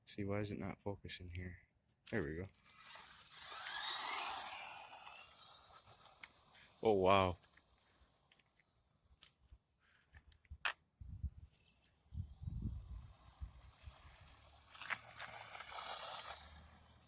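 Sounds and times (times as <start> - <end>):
toy truck motor whining: 2.5 - 17.0.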